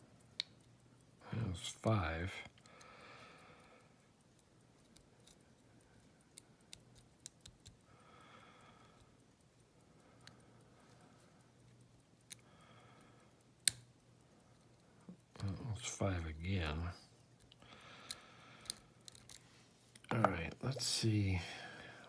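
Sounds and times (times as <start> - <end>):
lock pick ticking on pins: 0.0 - 22.0.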